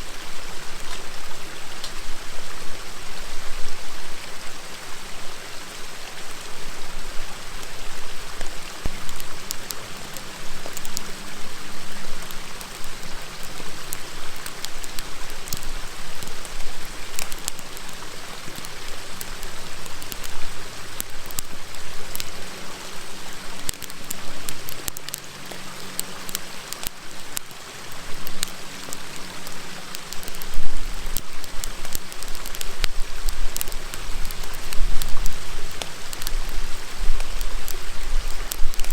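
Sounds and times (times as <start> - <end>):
wood fire crackling: 0.0 - 2.9, 6.4 - 38.9
river rushing: 0.0 - 38.9.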